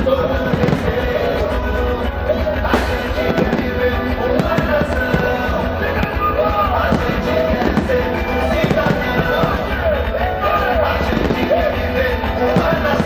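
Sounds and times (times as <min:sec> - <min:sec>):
fireworks banging: 0:00.0 - 0:13.0
loud music over sound system: 0:00.0 - 0:13.0.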